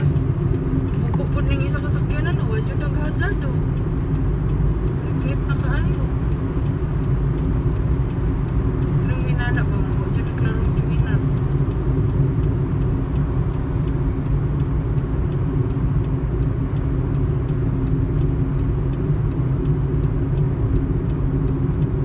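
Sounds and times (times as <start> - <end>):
car road and engine hum: 0.0 - 22.0
faint regular tick: 0.0 - 22.0.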